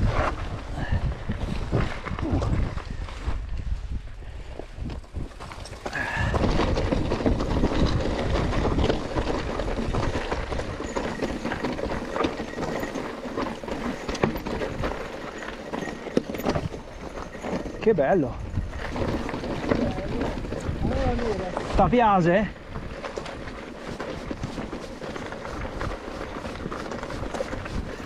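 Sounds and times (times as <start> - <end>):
bike rattling: 0.0 - 28.0
tyres crunching on stones: 4.9 - 28.0.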